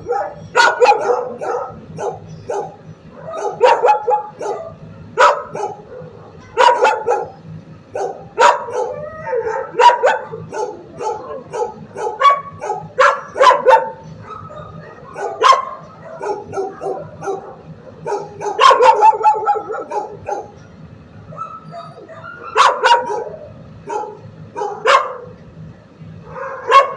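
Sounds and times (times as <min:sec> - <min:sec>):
dogs barking: 0:00.0 - 0:25.4, 0:26.2 - 0:26.9.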